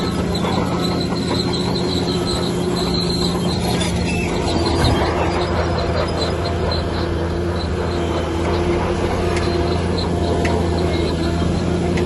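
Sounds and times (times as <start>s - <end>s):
crawler tracks squealing: 0.0s - 12.0s
diesel engine hum: 0.0s - 12.0s.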